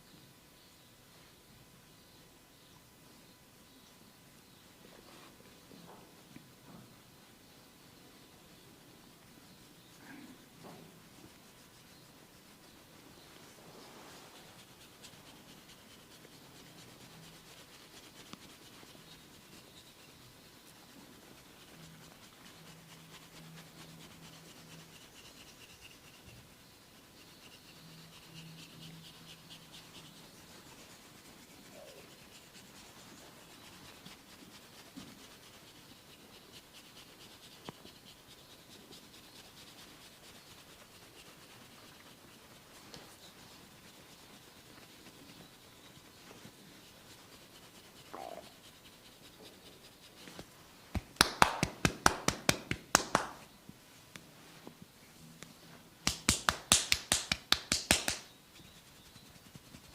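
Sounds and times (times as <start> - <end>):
hands rubbing over skin: 9.1 - 54.8, 55.5 - 59.9.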